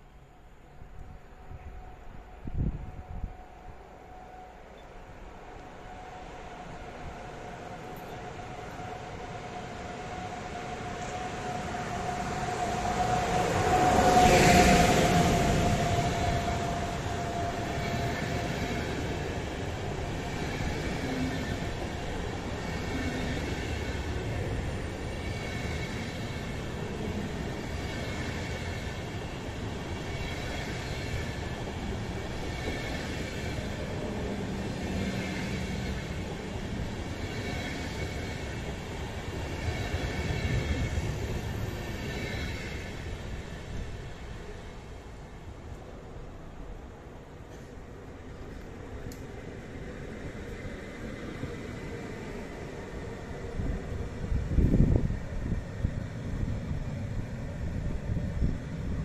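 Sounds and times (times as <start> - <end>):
high locomotive tone: 0.0 - 59.0
train wheels rumbling on rail: 5.2 - 59.0.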